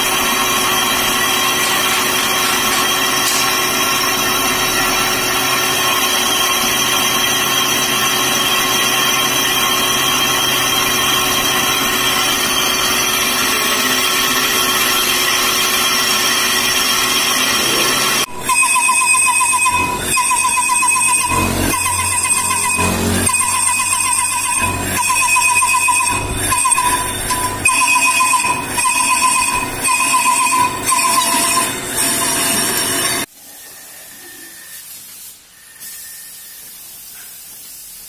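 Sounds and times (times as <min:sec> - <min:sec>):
metal lathe running: 0:00.0 - 0:33.3
wavering machine whine: 0:00.0 - 0:34.7.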